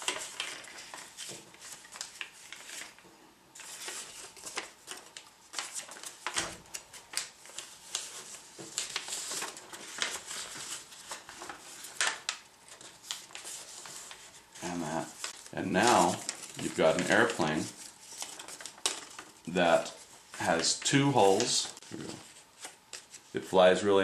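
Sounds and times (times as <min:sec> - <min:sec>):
paper rustling and crinkling: 0:00.0 - 0:03.0, 0:03.6 - 0:23.4.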